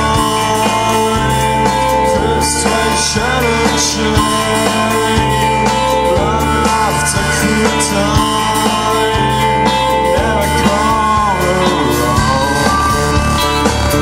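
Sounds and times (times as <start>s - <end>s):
rock music with singing: 0.0s - 14.0s.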